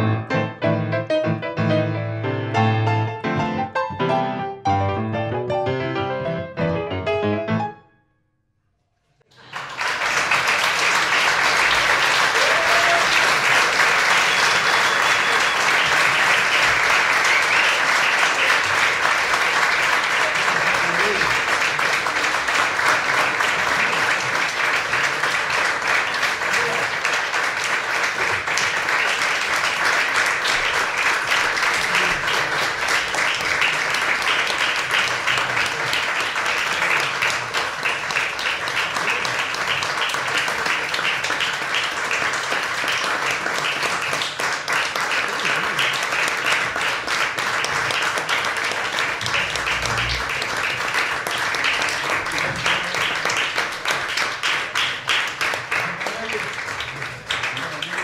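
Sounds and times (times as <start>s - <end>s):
audience applauding: 9.3s - 58.0s.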